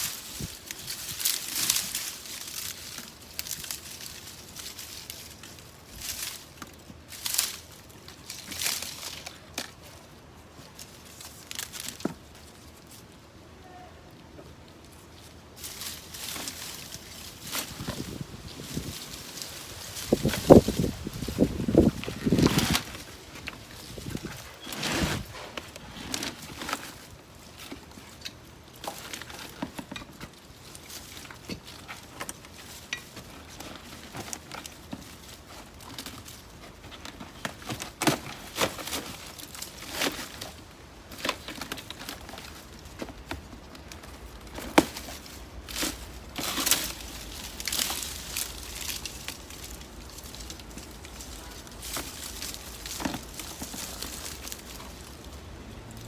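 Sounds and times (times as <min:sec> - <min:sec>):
foliage rustling and crackling: 0:00.0 - 0:56.0.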